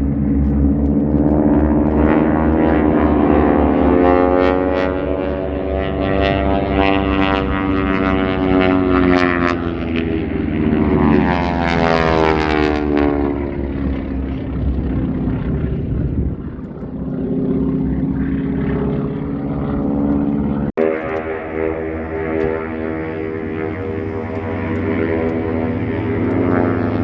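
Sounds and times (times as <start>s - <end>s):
propeller airplane flying past: 0.0s - 27.0s.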